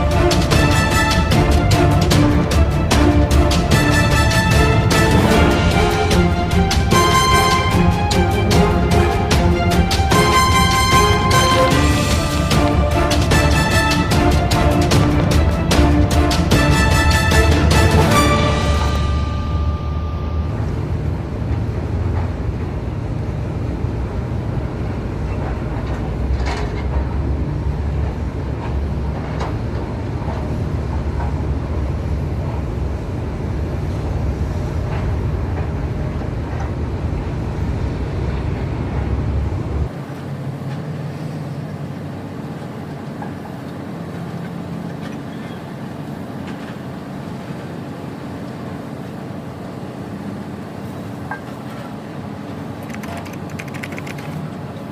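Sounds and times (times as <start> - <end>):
boat diesel engine rumbling: 0.0 - 54.9.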